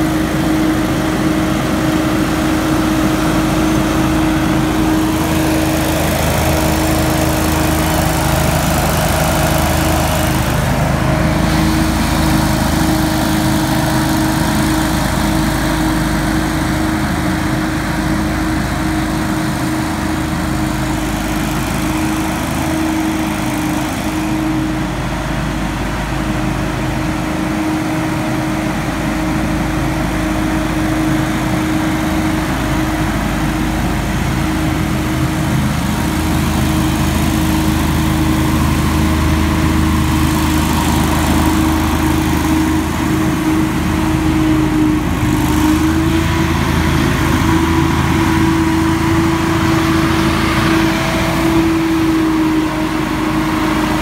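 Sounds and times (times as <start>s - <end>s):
leaf blower running: 0.0s - 54.0s.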